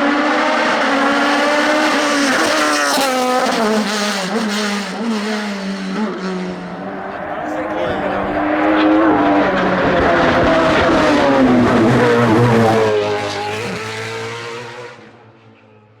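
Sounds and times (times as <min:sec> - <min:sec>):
race car engine revving: 0:00.0 - 0:15.3.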